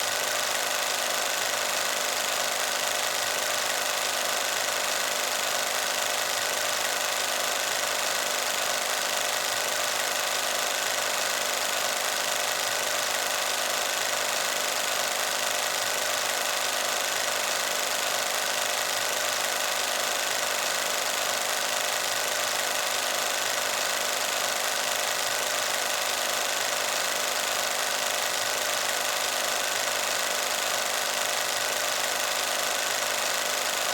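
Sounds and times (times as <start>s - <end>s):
film projector clattering: 0.0s - 33.9s.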